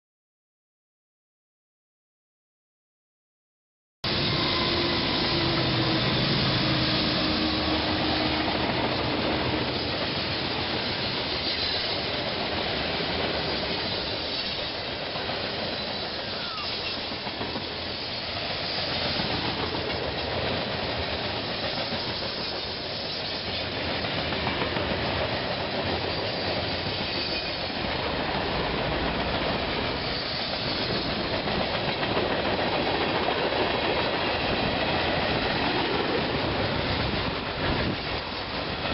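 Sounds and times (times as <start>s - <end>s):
train wheels rumbling on rails: 4.0s - 38.9s.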